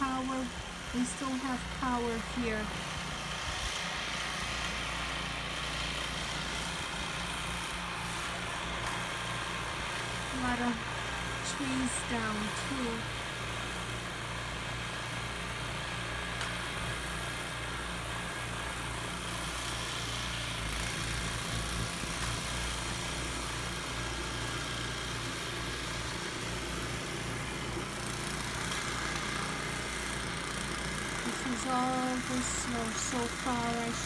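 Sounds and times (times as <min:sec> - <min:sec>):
snowblower engine running: 0:00.0 - 0:34.0.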